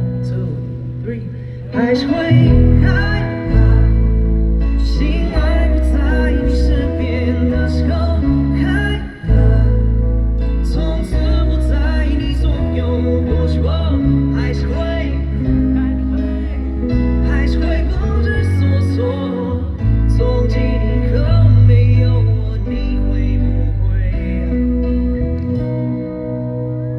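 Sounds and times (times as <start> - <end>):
man singing pop ballad: 0.0 - 26.2
guitar: 0.0 - 26.9
heavy bass line: 0.0 - 26.9.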